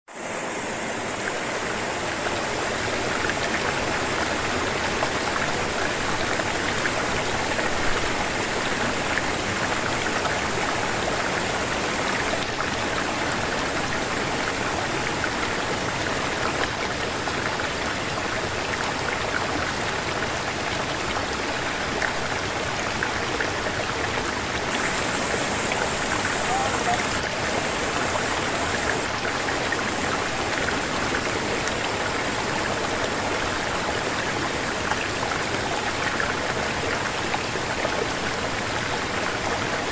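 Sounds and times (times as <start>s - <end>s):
stream rushing over rocks: 0.1s - 39.9s.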